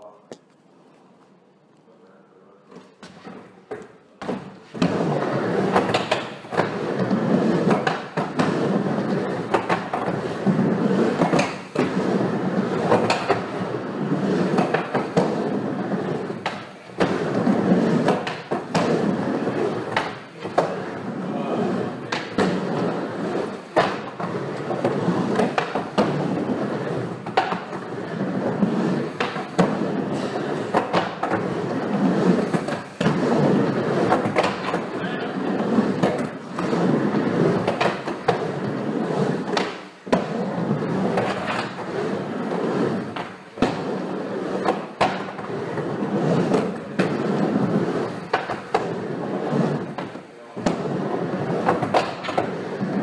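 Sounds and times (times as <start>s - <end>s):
skateboards rolling on wood: 2.7s - 53.0s
skateboards knocking on ramp: 3.0s - 20.9s, 22.0s - 44.0s, 44.6s - 53.0s.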